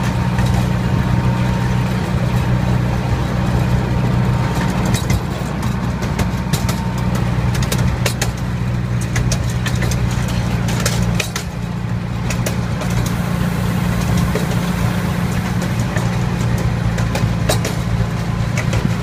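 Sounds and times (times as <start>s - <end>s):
low engine hum: 0.0s - 19.0s
wheels clicking and rattling: 0.0s - 19.0s.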